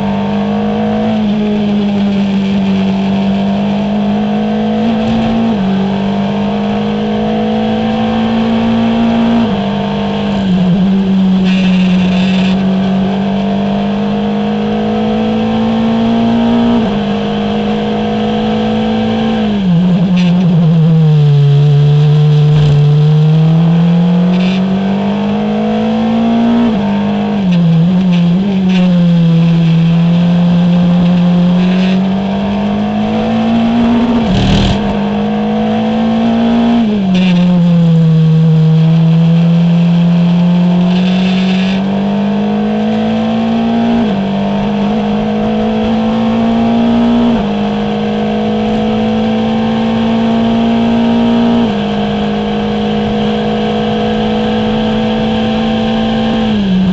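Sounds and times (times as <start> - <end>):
race car engine: 0.0 - 56.9.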